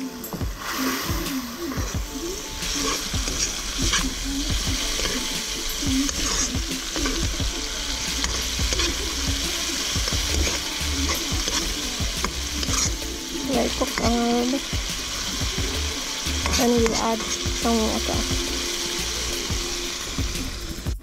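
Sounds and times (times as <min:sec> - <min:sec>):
tomatoes sizzling in hot oil: 0:00.0 - 0:21.0
metal spoon scraping wok: 0:00.2 - 0:19.8.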